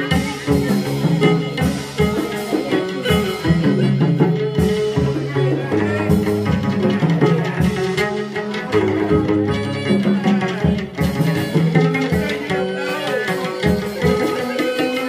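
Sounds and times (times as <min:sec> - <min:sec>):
drum beat: 0:00.0 - 0:15.0
plucked-string melody: 0:00.0 - 0:15.0.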